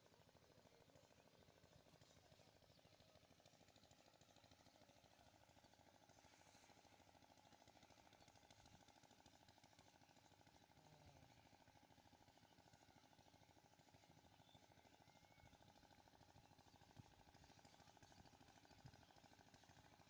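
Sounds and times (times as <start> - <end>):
faint rapid pulsing: 0.0 - 20.0.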